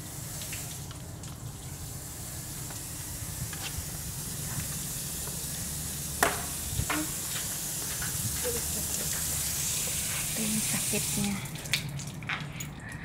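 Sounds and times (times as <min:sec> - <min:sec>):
water from hose on tiled floor: 0:00.0 - 0:13.0.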